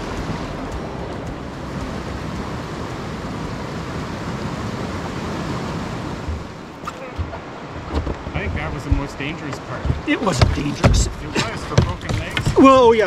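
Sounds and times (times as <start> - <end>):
river rapid rushing: 0.0 - 13.0.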